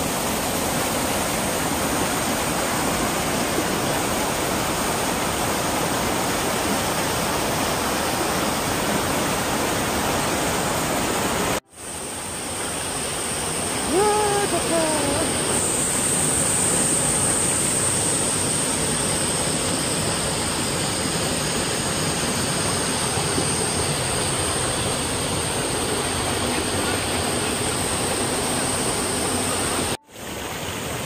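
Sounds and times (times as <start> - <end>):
stream rushing over boulders: 0.0 - 31.0.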